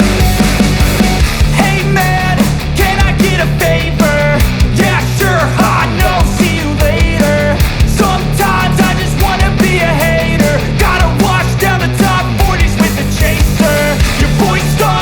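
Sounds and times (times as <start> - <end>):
loud rock music: 0.0 - 15.0
steady drum beat: 0.0 - 15.0.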